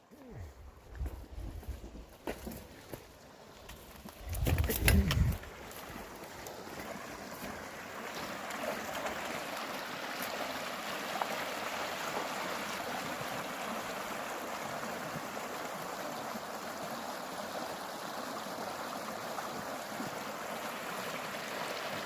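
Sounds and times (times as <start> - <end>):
water running over rocks: 0.0 - 22.0.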